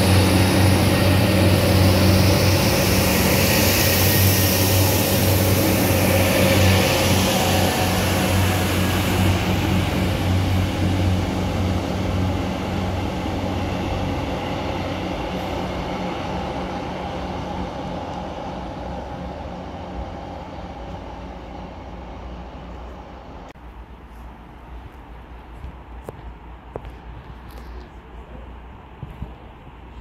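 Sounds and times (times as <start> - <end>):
train engine drone: 0.0 - 30.0
train wheel rumble: 0.0 - 30.0.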